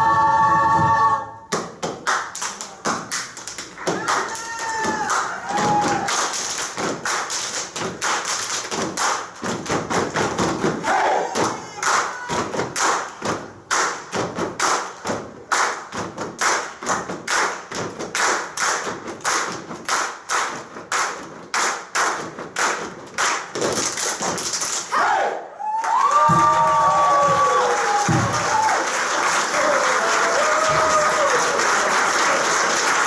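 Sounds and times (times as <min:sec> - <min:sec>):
people clapping and body slapping: 0:01.5 - 0:24.9, 0:25.8 - 0:33.0.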